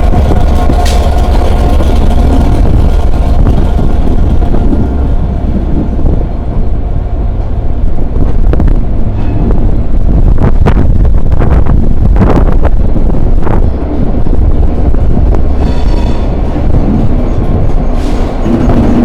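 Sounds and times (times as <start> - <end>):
diesel train rumbling past: 0.0 - 19.0
wind buffeting microphone: 0.0 - 19.0.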